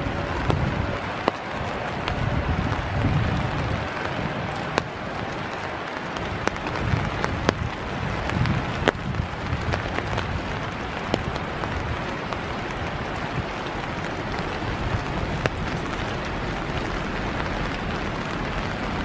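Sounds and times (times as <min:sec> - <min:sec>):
rain falling through forest: 0:00.0 - 0:19.0
raindrops ticking close by: 0:00.0 - 0:19.0.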